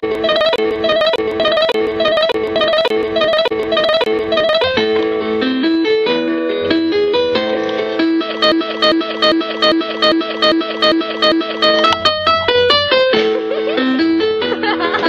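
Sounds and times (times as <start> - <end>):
plucked guitar-like melody: 0.0 - 6.0, 6.6 - 14.6.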